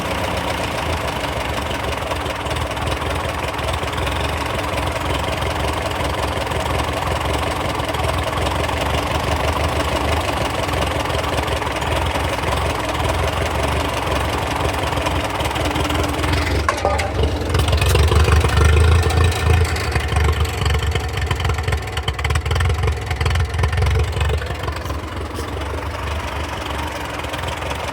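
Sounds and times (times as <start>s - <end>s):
tractor engine idling: 0.0s - 27.9s.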